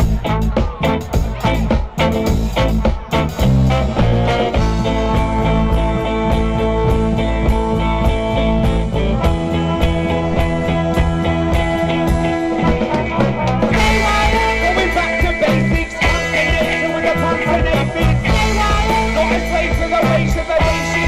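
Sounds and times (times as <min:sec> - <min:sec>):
electric guitar: 0:00.0 - 0:21.0
live rock band: 0:00.0 - 0:21.0
steady drum beat: 0:00.0 - 0:21.0.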